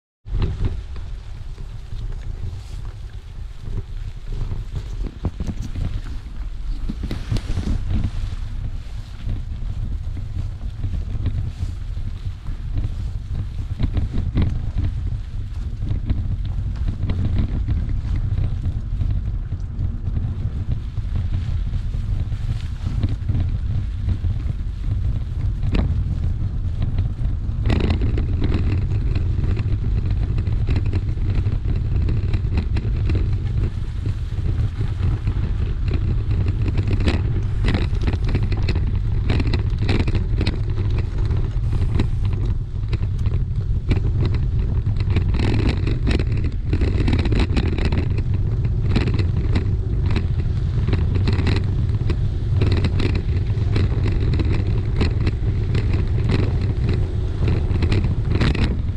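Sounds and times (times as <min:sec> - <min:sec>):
bicycle rattling on bumpy track: 0:00.2 - 0:58.9
wind buffeting microphone: 0:00.2 - 0:58.9.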